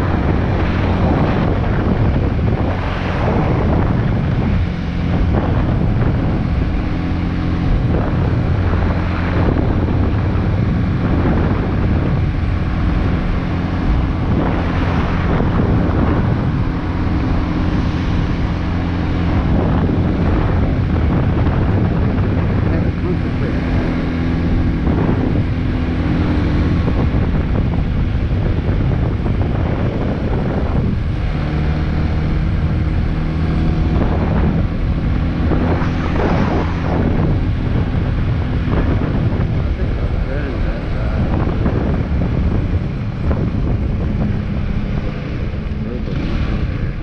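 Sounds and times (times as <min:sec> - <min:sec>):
motorcycle engine running: 0:00.0 - 0:47.0
wind noise on microphone: 0:00.0 - 0:47.0.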